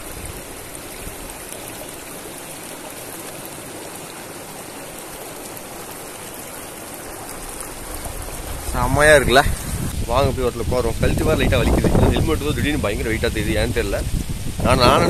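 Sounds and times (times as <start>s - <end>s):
river water flowing over rocks: 0.0s - 15.0s.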